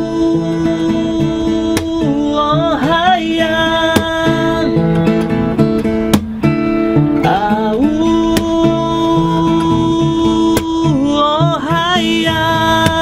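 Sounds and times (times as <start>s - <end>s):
man singing: 0.0s - 5.2s, 7.1s - 13.0s
strummed acoustic guitar: 0.0s - 13.0s.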